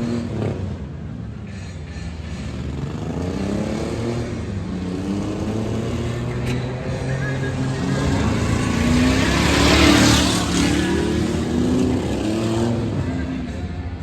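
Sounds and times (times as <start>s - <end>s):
truck engine revving: 2.2s - 13.6s.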